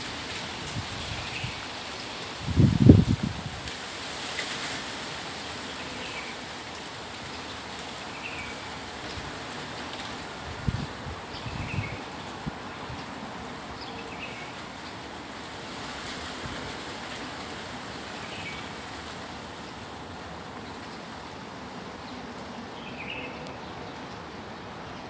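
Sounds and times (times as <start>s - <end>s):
wind rustling tree leaves: 0.0s - 25.0s.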